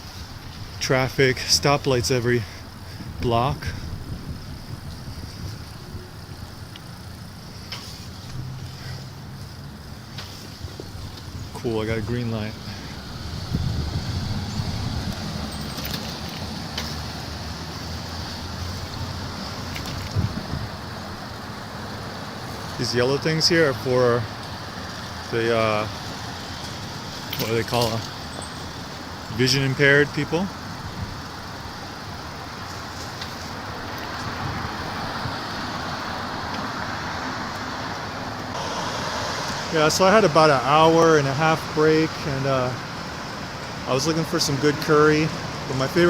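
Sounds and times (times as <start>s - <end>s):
city traffic rumble: 0.0s - 46.0s.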